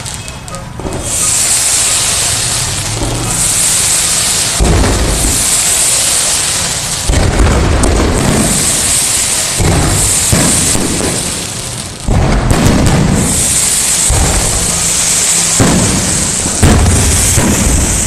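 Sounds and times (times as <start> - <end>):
fireworks crackling: 0.0 - 18.0
deep firework booms: 0.7 - 18.0.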